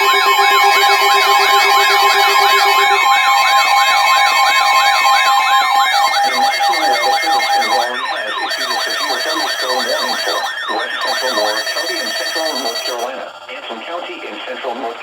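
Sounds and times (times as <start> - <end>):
electronic wailing siren: 0.0 - 13.6
steady alarm tones: 0.0 - 13.6.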